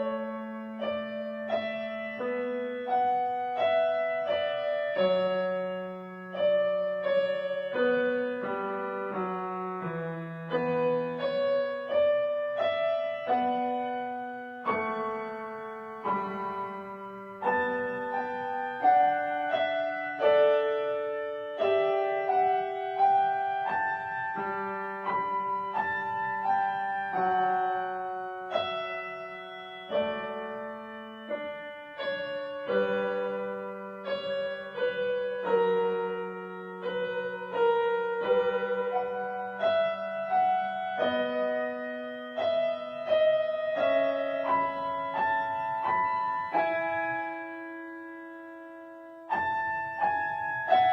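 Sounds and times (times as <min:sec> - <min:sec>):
gentle piano melody: 0:00.0 - 0:50.9.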